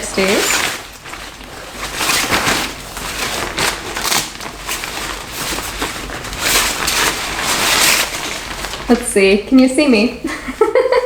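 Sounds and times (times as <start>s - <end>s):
salon cape rustling: 0.0s - 11.0s.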